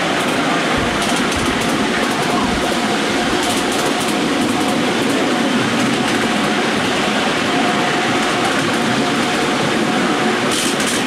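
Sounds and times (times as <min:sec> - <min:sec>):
wheel-on-rail rumble: 0:00.0 - 0:11.0.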